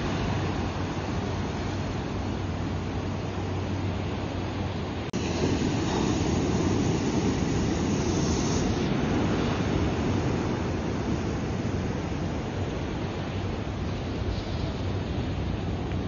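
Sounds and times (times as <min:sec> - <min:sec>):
surf washing over rocks: 0:00.0 - 0:16.0.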